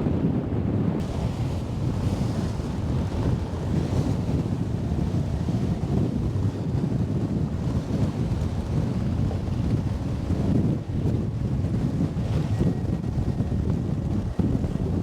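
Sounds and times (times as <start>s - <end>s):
gusty wind buffeting microphone: 0.0s - 15.0s
water rushing along hull: 1.0s - 15.0s.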